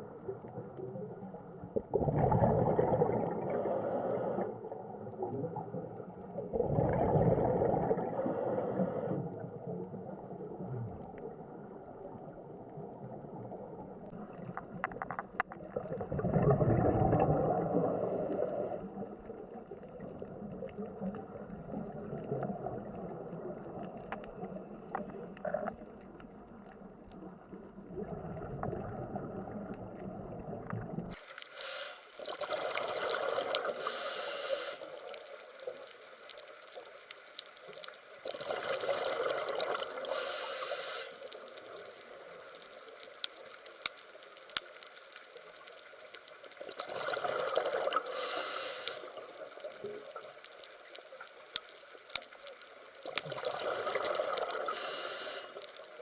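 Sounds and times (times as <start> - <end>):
water bubbling: 0.0 - 36.0, 37.6 - 43.6, 45.9 - 52.2, 52.9 - 56.0.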